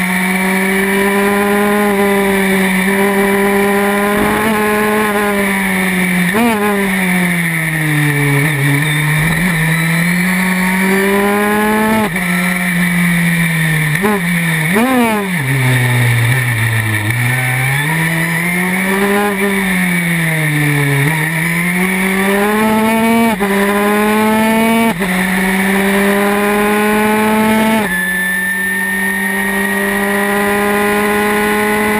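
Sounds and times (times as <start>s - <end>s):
racing car engine: 0.0s - 31.9s.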